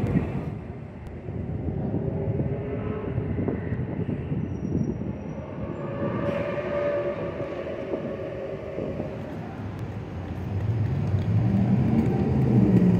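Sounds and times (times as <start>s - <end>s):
city street rumble: 0.0s - 12.9s.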